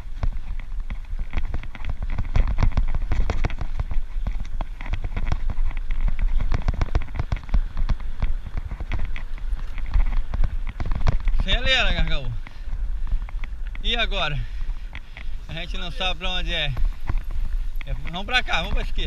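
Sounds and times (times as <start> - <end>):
bicycle tyres crackling on gravel: 0.0 - 19.0
bike jolting over bumps: 0.0 - 19.0
wind on microphone: 0.0 - 19.0.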